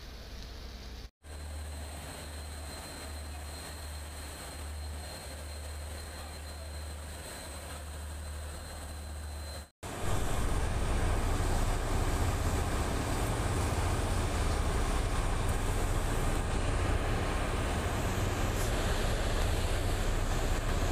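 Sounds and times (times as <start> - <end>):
ship engine droning: 0.0 - 20.9.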